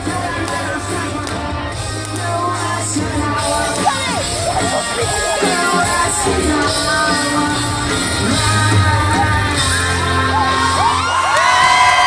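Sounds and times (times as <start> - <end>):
live rock band playing: 0.0 - 12.0
person singing: 0.0 - 12.0.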